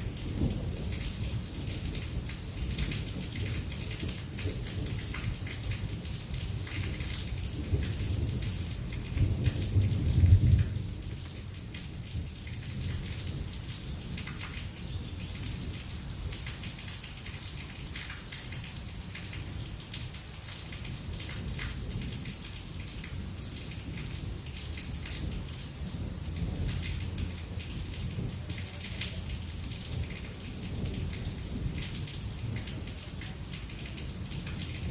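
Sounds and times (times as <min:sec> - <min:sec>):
low rumble of thunder: 0:00.0 - 0:17.8, 0:18.4 - 0:34.9
heavy rain pattering: 0:00.0 - 0:34.9.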